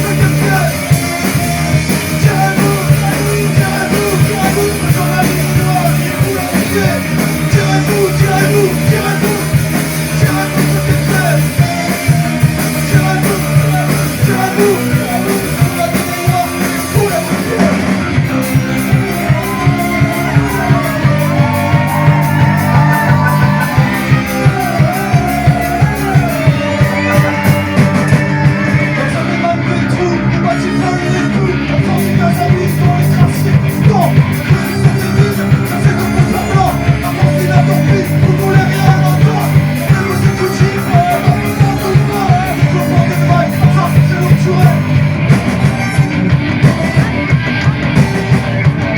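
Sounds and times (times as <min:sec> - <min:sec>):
driving drumbeat: 0:00.0 - 0:48.9
person singing: 0:00.0 - 0:48.9
rock band playing live: 0:00.0 - 0:48.9.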